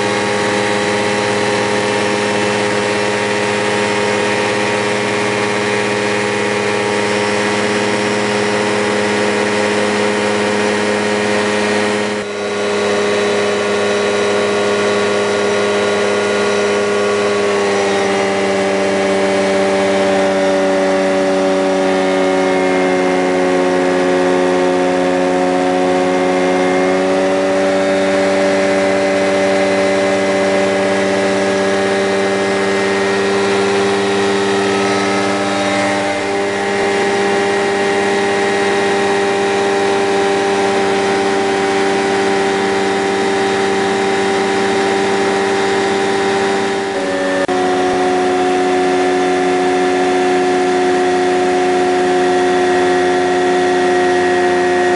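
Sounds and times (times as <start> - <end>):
ultralight engine and propeller drone: 0.0 - 54.9.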